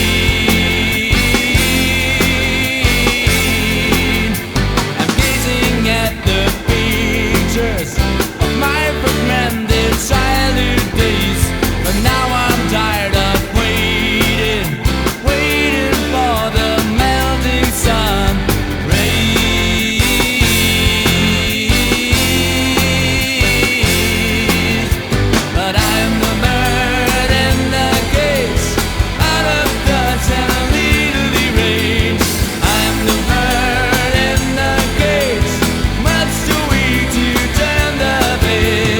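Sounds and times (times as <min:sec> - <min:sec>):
pop-rock band music: 0:00.0 - 0:38.9
steady drum beat: 0:00.0 - 0:38.9
sustained low bass: 0:00.0 - 0:38.9
wavering melodic lead line: 0:00.0 - 0:38.9.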